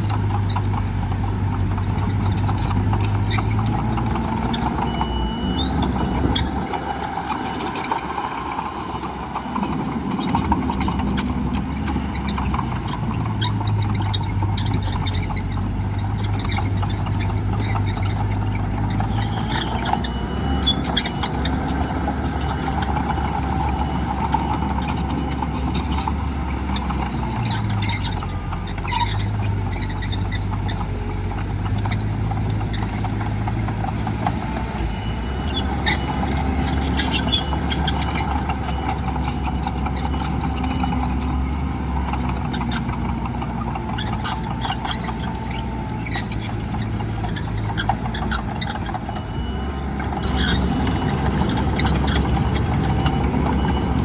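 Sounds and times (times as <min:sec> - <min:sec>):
diesel machinery running: 0:00.0 - 0:54.0.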